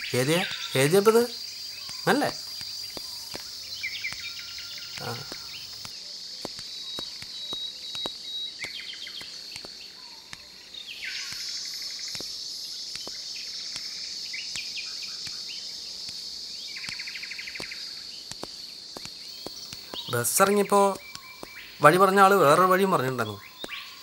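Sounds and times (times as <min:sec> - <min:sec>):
birds calling: 0:00.0 - 0:24.0
high-pitched insect chorus: 0:00.0 - 0:24.0.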